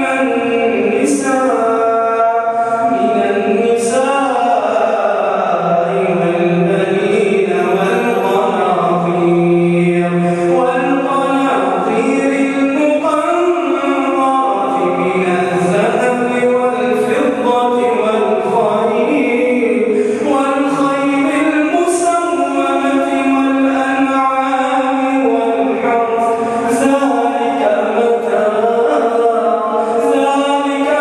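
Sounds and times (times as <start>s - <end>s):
man chanting melodically: 0.0s - 31.0s.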